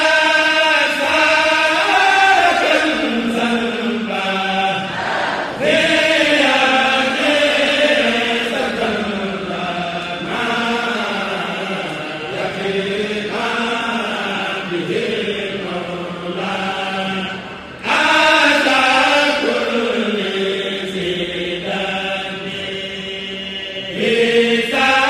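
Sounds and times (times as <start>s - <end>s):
voices chanting: 0.0s - 25.0s.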